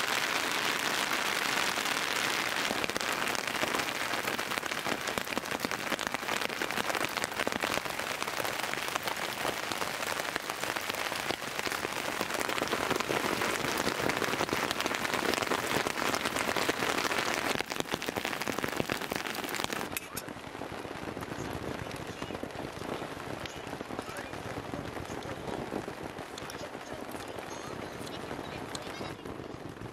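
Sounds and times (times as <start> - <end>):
rain pattering on tent: 0.0 - 29.9.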